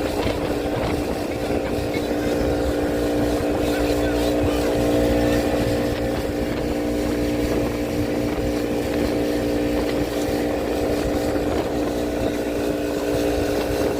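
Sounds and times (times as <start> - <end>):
motorboat engine droning: 0.0 - 13.9.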